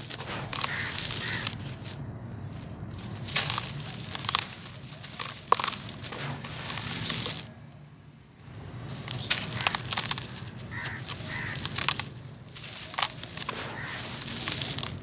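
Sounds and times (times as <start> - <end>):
hands crumbling gritty powder: 0.0 - 7.5, 8.8 - 15.0.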